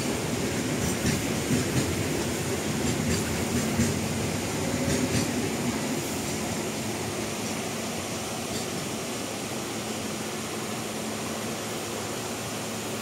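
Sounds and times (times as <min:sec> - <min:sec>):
freight wagons rumbling on rails: 0:00.0 - 0:13.0.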